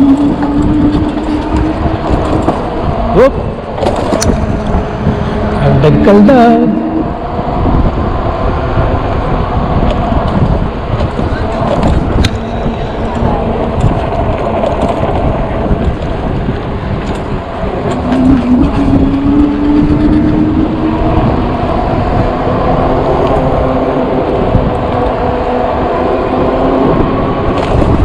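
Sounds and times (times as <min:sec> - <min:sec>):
loud low rumble: 0:00.0 - 0:28.0
wind buffeting microphone: 0:00.0 - 0:28.0.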